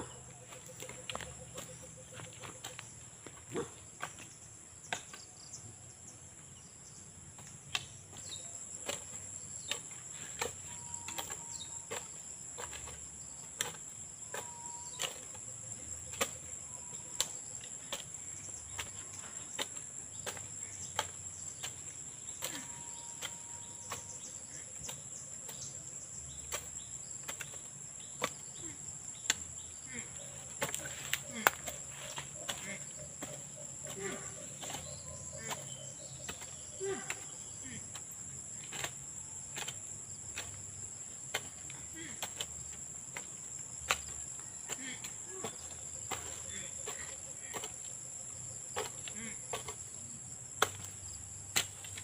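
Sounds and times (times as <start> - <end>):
insects droning: 0.0 - 52.0
hoe chopping into soil: 7.6 - 28.6, 29.2 - 48.0, 48.6 - 52.0.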